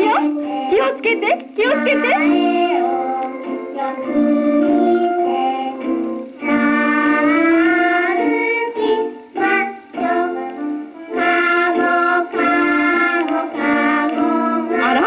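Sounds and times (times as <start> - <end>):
children's song with piano: 0.0 - 15.0.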